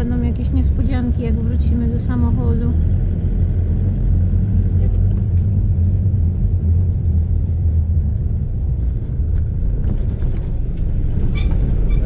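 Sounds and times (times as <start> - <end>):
low vehicle engine: 0.0 - 12.0
road rumble: 0.0 - 12.0.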